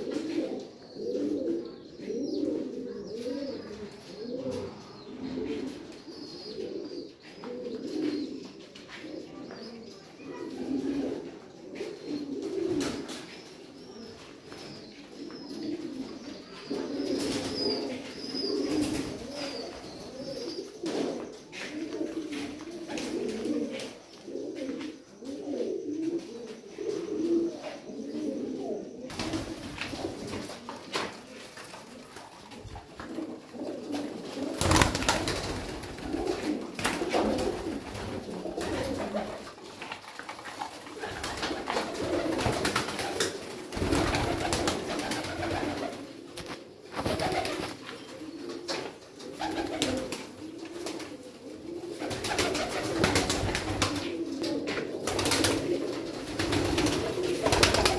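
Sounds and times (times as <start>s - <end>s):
pigeons cooing: 0.0s - 57.9s.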